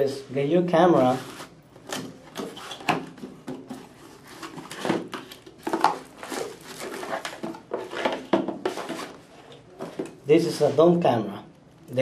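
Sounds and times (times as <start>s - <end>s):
cardboard flaps rustling: 1.0s - 10.6s.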